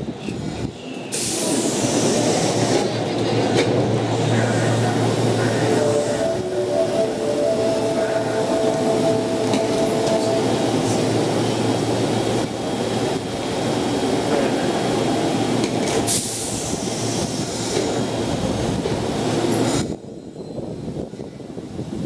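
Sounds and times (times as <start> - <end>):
train equipment hum and hiss: 0.0 - 22.0.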